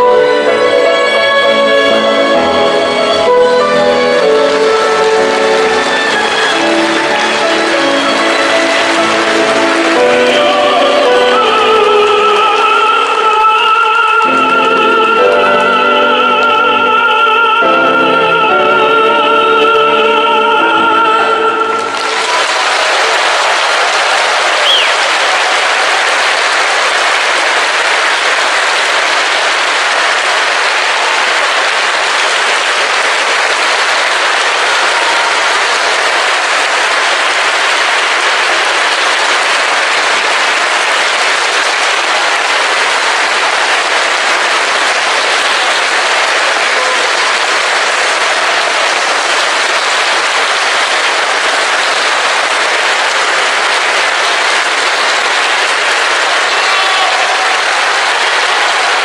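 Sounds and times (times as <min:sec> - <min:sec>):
large audience applauding: 0:00.0 - 0:18.8, 0:20.6 - 0:59.0.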